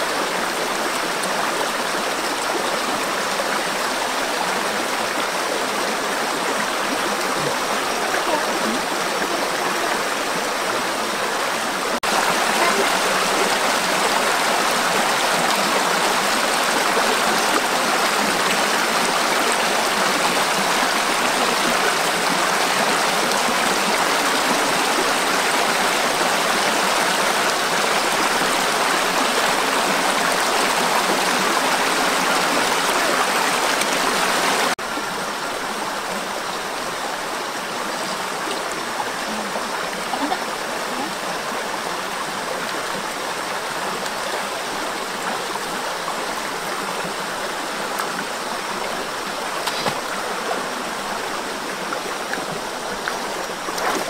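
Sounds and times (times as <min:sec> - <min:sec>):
flowing river water: 0:00.0 - 0:54.0.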